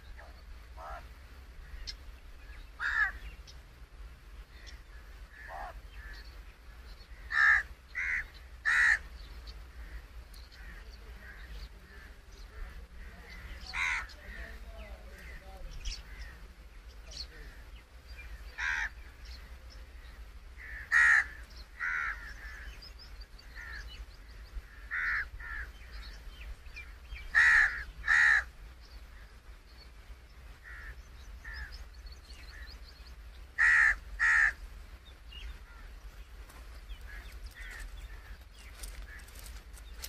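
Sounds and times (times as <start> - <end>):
bird harsh calls: 0.0 - 3.6, 4.4 - 40.0.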